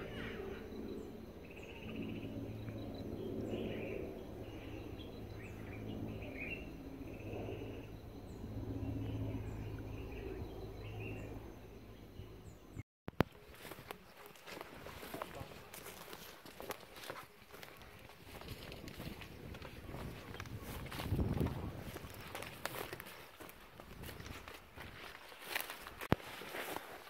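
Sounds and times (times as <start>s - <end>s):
birds calling: 0.0s - 25.8s.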